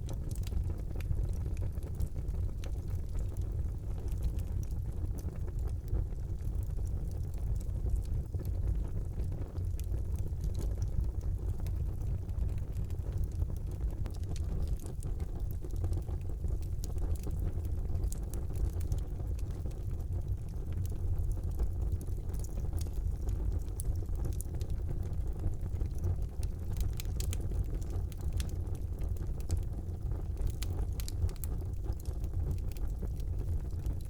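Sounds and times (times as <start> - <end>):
fire crackles and pops: 0.0 - 34.0
fire roaring in fireplace: 0.0 - 34.0.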